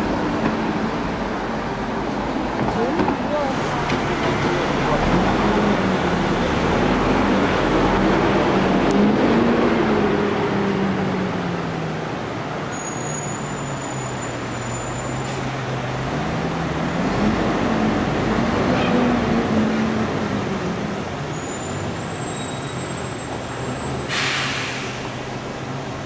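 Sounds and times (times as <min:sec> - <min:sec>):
bus engine pulling away: 0:00.0 - 0:26.0
road traffic: 0:00.0 - 0:26.0.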